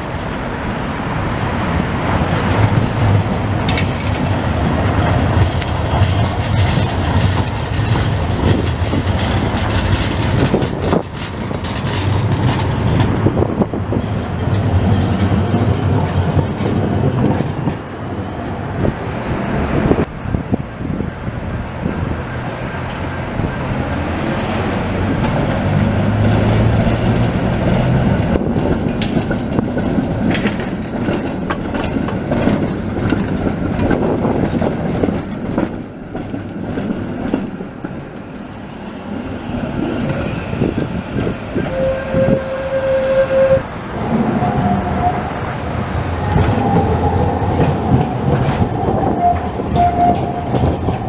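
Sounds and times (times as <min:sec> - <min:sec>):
tram motor hum: 0:00.0 - 0:51.0
steel wheels clattering over rail joints: 0:02.1 - 0:20.1, 0:21.8 - 0:51.0.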